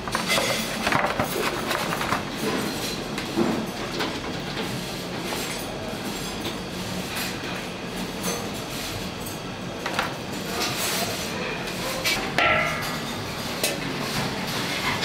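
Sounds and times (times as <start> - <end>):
rushing kitchen noise: 0.0 - 15.0.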